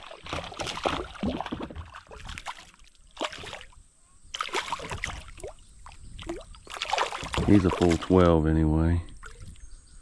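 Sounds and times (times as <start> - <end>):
water splashing around kayak: 0.0 - 9.8.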